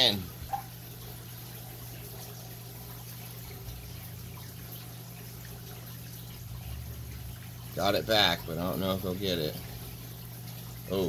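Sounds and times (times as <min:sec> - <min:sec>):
low steady hum: 0:00.0 - 0:11.0
water trickling and splashing: 0:00.0 - 0:11.0.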